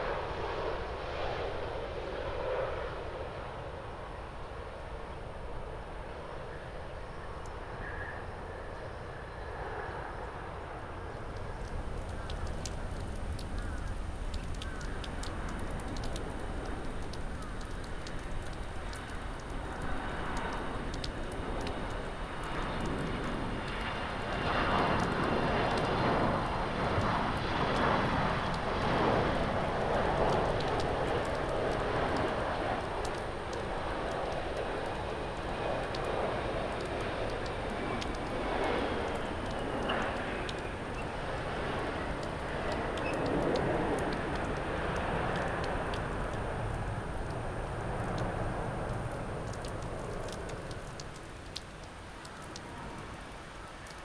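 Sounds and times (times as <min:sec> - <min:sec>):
jet airliner engines: 0:00.0 - 0:54.0.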